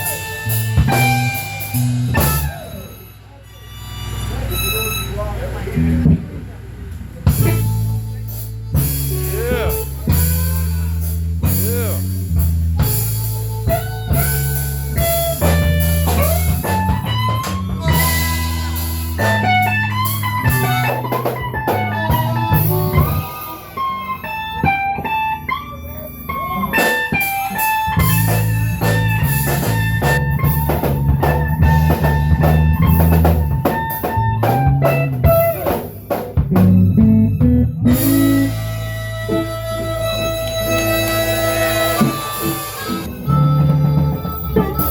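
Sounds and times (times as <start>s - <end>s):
drum kit beat: 0.0s - 5.0s, 7.2s - 44.9s
electric guitar lead with bent notes: 0.0s - 44.9s.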